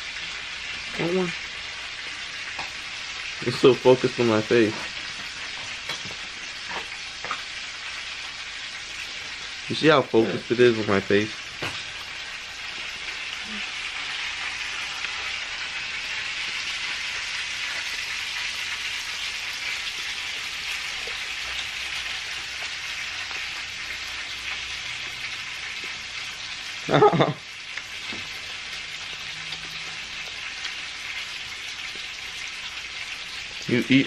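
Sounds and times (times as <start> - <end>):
hot oil frying food: 0.0 - 34.0.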